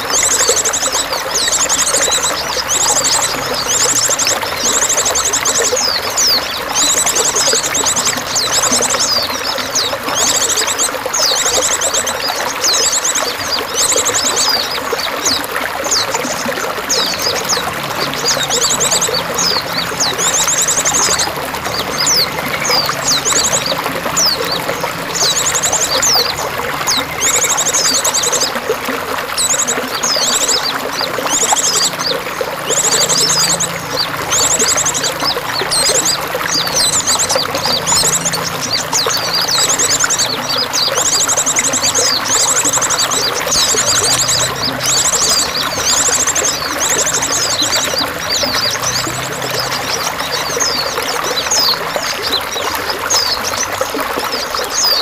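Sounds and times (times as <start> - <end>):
songbird trilling and chirping: 0.0 - 28.7, 29.3 - 55.0
water trickling: 0.0 - 55.0.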